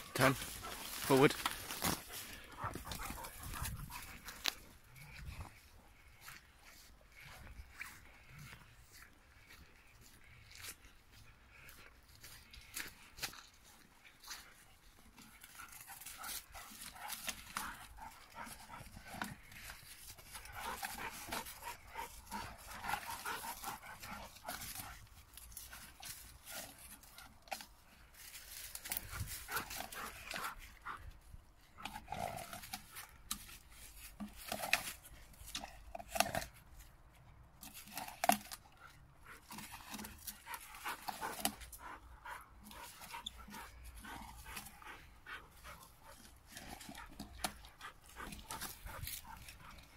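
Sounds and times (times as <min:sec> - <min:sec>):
dogs panting: 0:00.0 - 0:36.9, 0:37.6 - 0:49.9.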